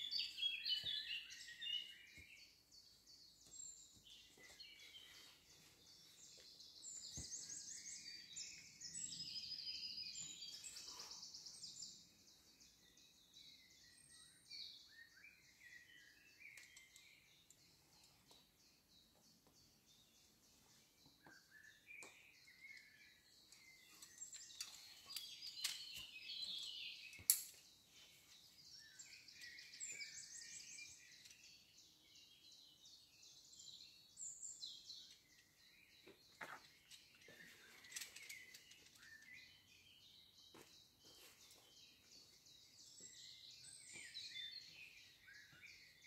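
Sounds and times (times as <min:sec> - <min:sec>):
faint birdsong with trills: 0:00.0 - 0:46.0.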